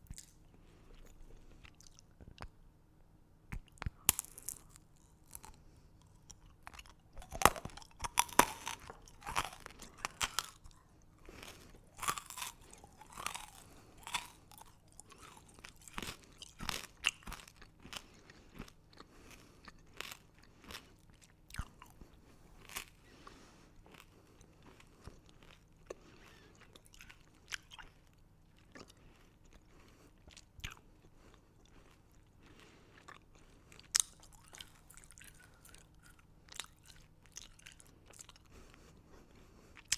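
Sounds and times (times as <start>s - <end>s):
candy crunching while chewed: 0.1s - 2.6s, 3.5s - 39.9s.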